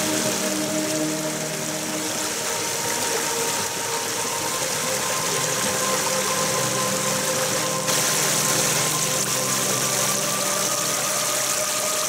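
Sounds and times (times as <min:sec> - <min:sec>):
stream water over rocks: 0:00.0 - 0:12.0.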